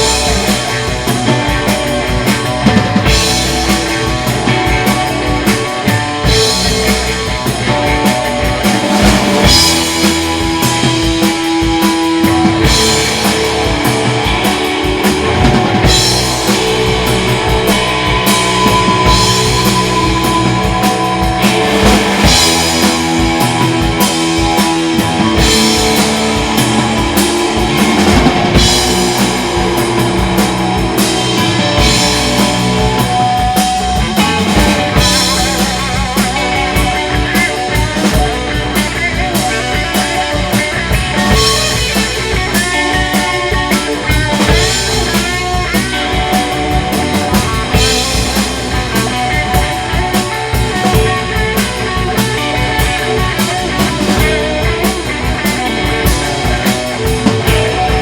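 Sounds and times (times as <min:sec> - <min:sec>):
bass guitar: 0:00.0 - 0:58.0
drum kit beat: 0:00.0 - 0:58.0
electric guitars sustained notes: 0:00.0 - 0:58.0.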